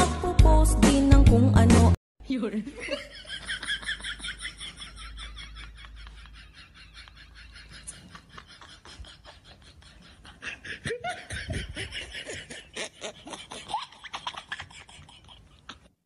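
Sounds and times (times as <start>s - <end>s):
laughing vocal effects: 2.9s - 16.0s.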